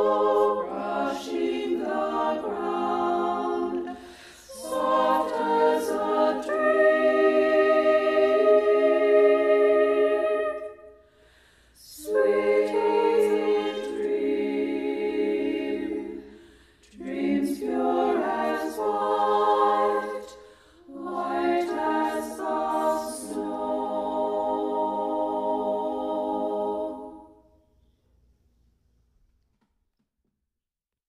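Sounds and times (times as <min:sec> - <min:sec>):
women singing a cappella harmony: 0:00.0 - 0:11.0, 0:11.8 - 0:27.4.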